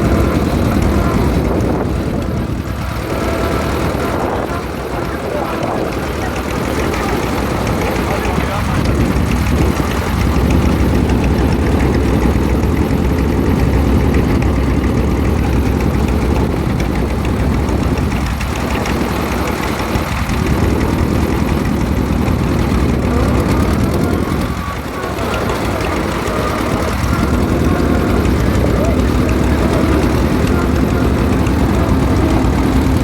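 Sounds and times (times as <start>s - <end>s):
loud engine rumbling: 0.0s - 33.0s.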